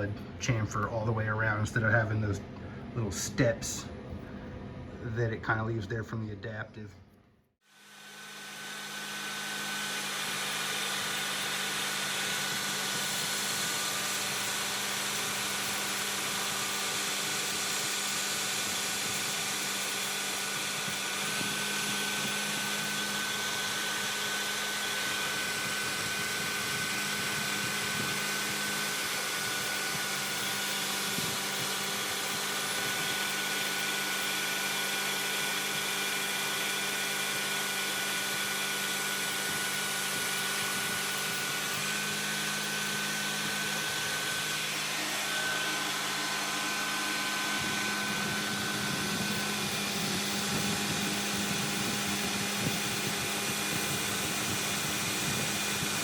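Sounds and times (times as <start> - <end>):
high-pitched machine whine: 7.7 - 56.0
milling machine hum: 7.7 - 56.0.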